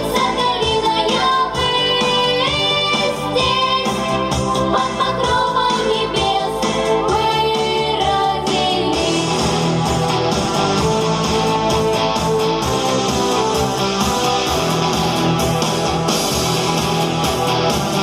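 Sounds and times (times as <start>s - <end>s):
instrumental pop music with guitar: 0.0s - 18.0s.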